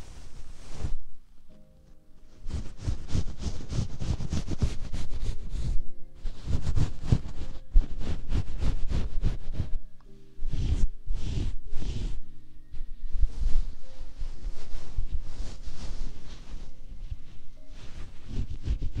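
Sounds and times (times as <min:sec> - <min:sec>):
fingers rustling plush blanket: 0:00.0 - 0:19.0
soft background music: 0:00.0 - 0:19.0.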